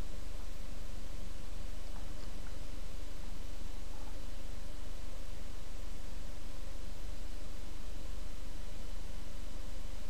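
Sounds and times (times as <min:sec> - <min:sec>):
faint steady tones: 0:00.0 - 0:10.0
steady hiss: 0:00.0 - 0:10.0.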